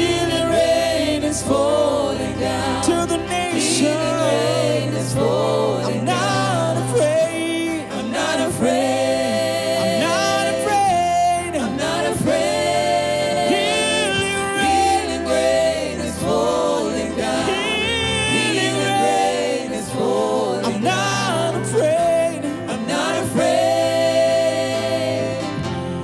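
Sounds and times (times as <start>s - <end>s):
choir singing in harmony: 0.0s - 26.0s
sustained low chords: 0.0s - 26.0s.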